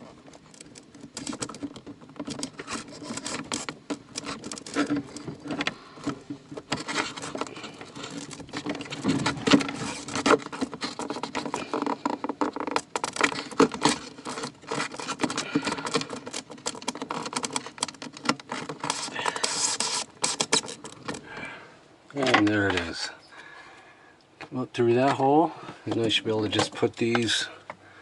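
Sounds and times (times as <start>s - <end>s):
cable scraping and rustling: 0.0s - 23.2s, 24.5s - 27.5s.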